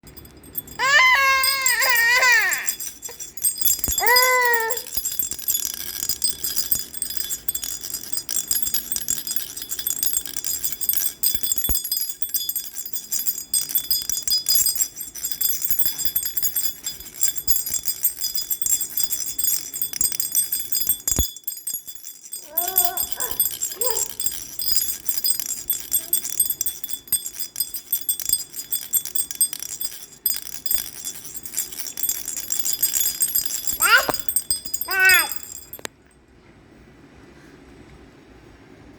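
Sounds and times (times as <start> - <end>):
baby rattle jingling: 0.0 - 35.9.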